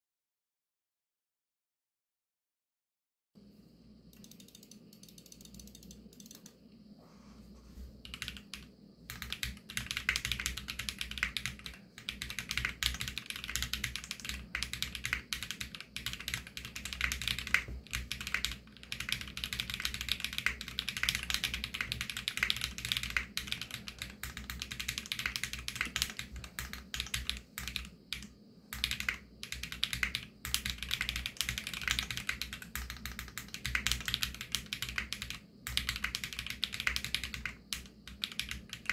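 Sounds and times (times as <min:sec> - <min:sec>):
typing on mechanical keyboard: 0:04.2 - 0:06.6, 0:08.0 - 0:38.9.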